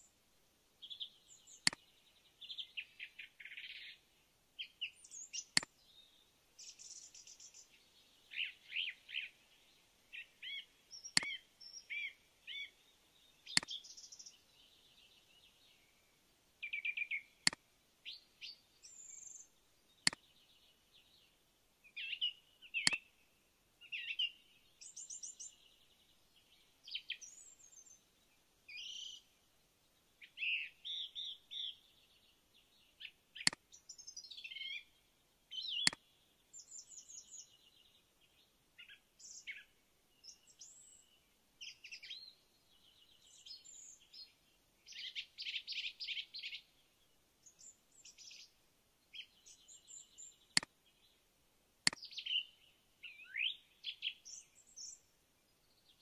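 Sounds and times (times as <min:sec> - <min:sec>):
songbirds chirping and singing: 0:00.8 - 0:51.3, 0:51.9 - 0:56.0.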